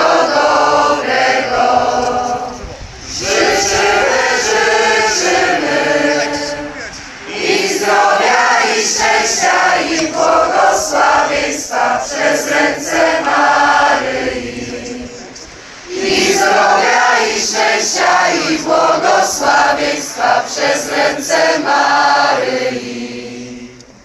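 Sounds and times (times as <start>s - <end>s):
crowd singing in unison: 0.0s - 24.0s.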